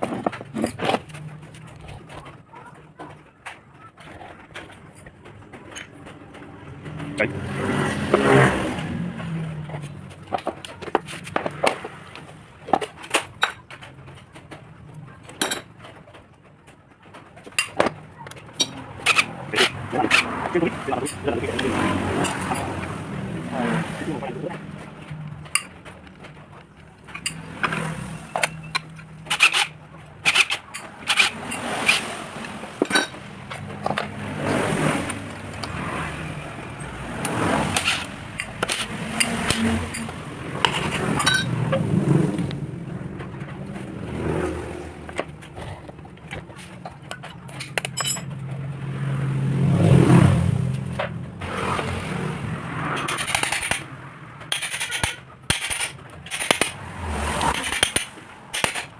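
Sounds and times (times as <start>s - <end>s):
metal clicks and scrapes: 0.0s - 58.9s.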